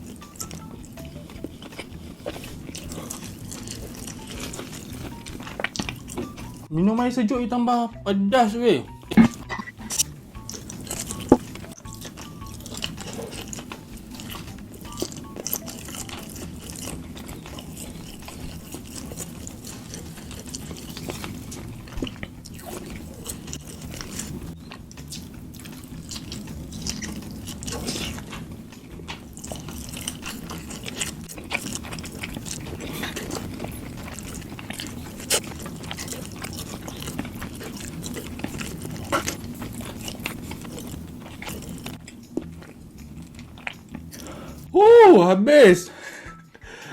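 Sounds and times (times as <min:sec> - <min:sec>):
crunchy chewing of food: 0:00.0 - 0:06.7, 0:08.9 - 0:44.7.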